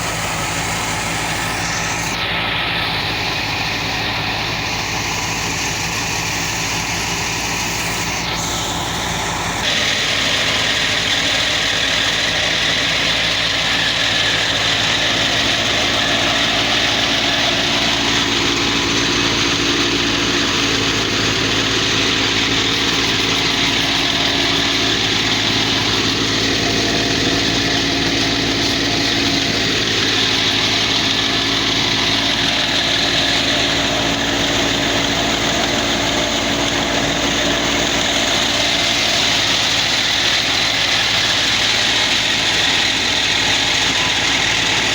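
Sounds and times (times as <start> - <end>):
threshing machine running: 0.0 - 44.9.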